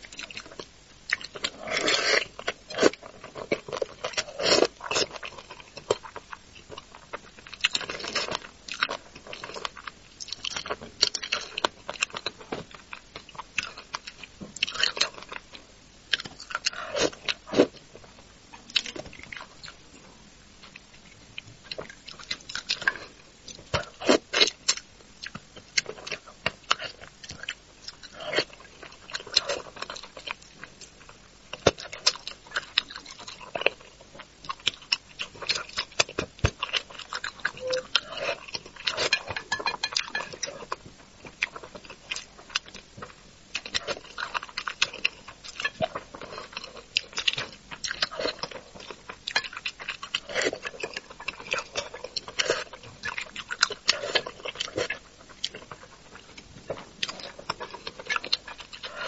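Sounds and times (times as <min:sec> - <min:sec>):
wet chewing: 0:00.0 - 0:17.8, 0:20.6 - 0:59.0.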